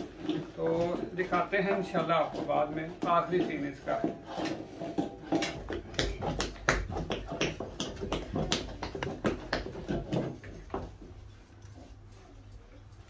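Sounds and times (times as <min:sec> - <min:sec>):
wooden paddle beating in iron pan: 0:00.0 - 0:11.0.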